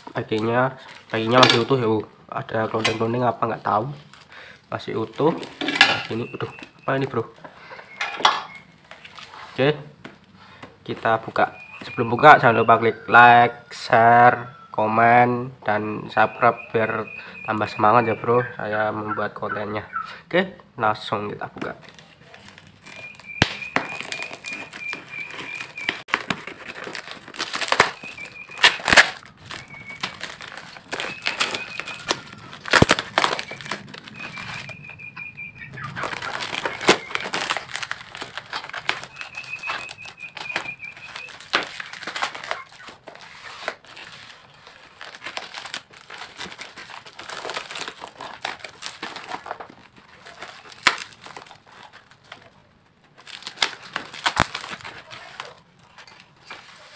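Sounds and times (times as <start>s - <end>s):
plastic wrap crinkling: 0.0s - 12.6s, 21.4s - 56.9s.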